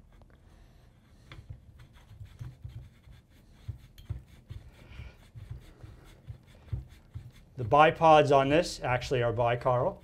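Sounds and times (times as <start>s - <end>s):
faint rubbing: 0.0s - 8.4s.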